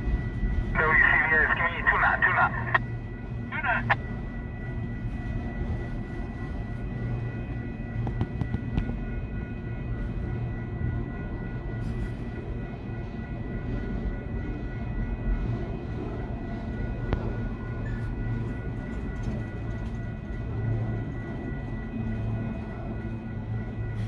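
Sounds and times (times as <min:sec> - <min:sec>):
diesel locomotive engines rumbling: 0:00.0 - 0:24.0.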